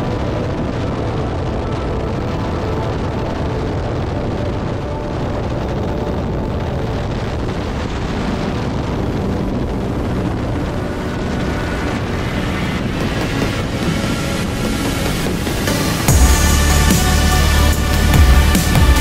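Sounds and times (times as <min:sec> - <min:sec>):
hull water noise: 0:00.0 - 0:19.0
motorboat engine drone: 0:00.0 - 0:19.0
wind rushing over microphone: 0:00.0 - 0:19.0.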